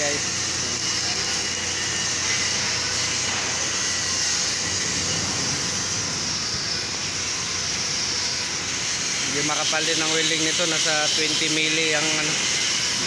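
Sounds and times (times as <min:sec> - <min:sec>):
arc welding hiss: 0:00.0 - 0:13.0.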